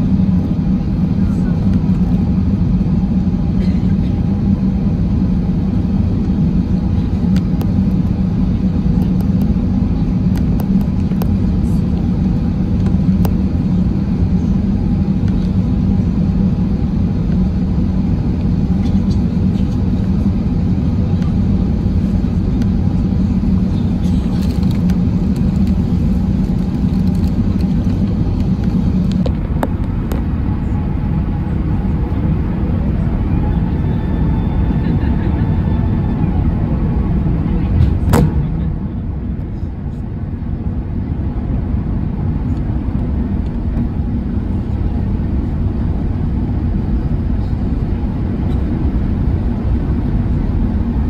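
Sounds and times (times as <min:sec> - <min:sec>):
aircraft cabin engine rumble: 0:00.0 - 0:51.0.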